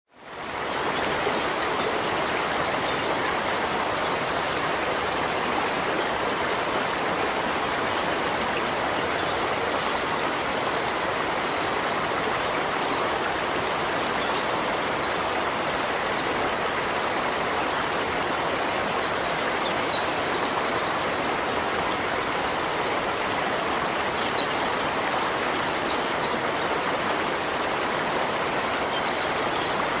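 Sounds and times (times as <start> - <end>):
river water flowing: 0.1 - 30.0.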